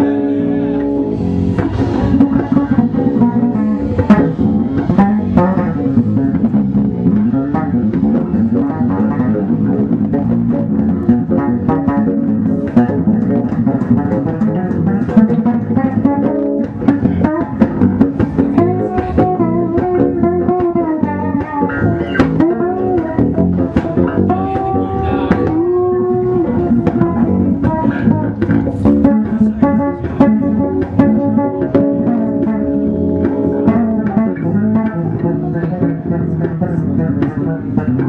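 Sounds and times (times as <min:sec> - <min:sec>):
electric bass plucked notes: 0:00.0 - 0:38.0.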